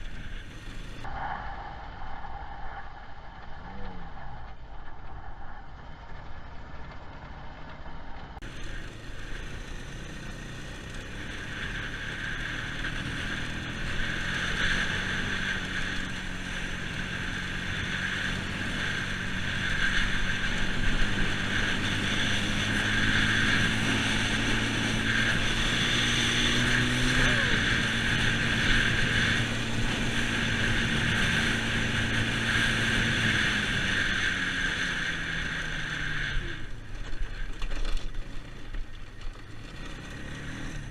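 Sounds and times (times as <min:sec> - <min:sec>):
atv engine running: 0:00.0 - 0:01.1, 0:03.4 - 0:40.9.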